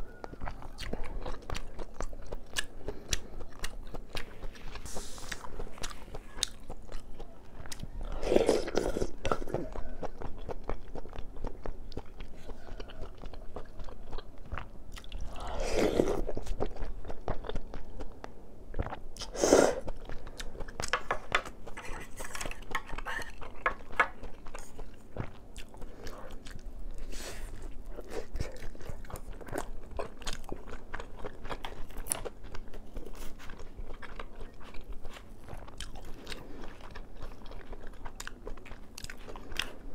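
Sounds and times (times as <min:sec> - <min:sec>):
wet chewing: 0:00.1 - 0:39.9.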